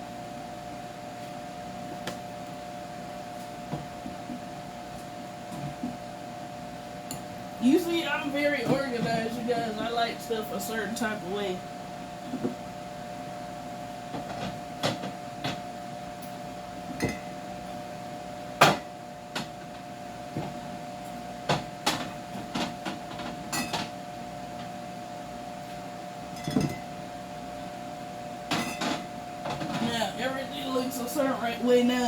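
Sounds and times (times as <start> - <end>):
refrigerator hum: 0.0 - 32.0.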